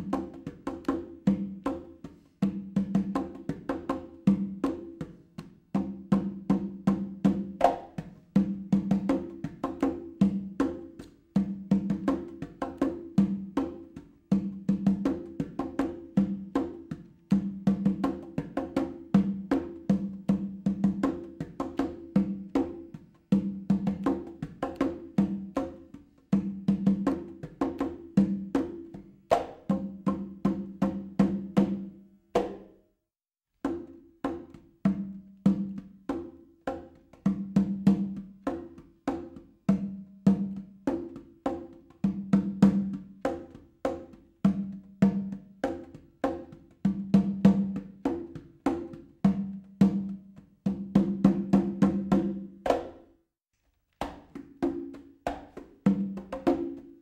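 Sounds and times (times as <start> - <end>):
wood-block percussive music: 0.0 - 32.8, 33.6 - 53.2, 54.0 - 57.0.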